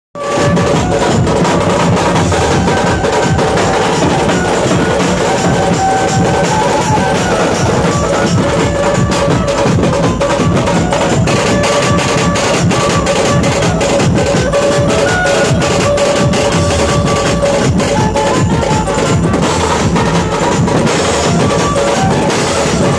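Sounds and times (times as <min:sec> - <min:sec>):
fast dense drumming: 0:00.2 - 0:22.9.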